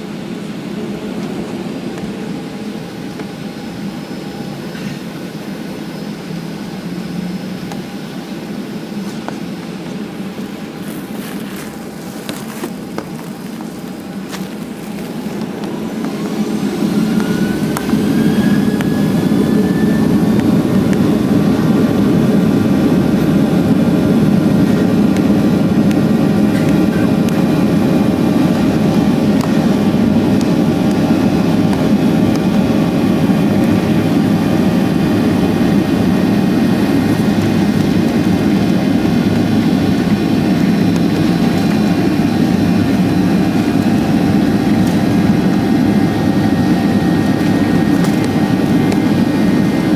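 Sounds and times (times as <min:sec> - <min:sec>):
jet engines spooling up: 0:00.0 - 0:49.9
rush of engine and air noise: 0:00.0 - 0:49.9.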